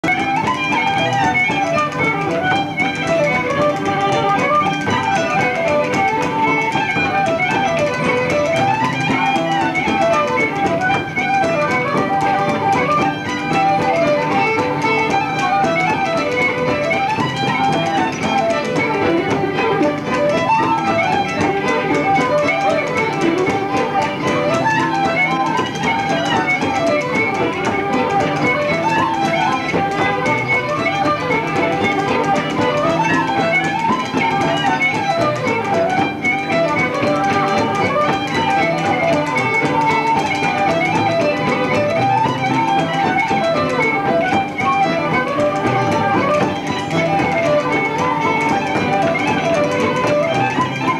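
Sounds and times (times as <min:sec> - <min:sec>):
traditional folk session music: 0:00.0 - 0:50.9.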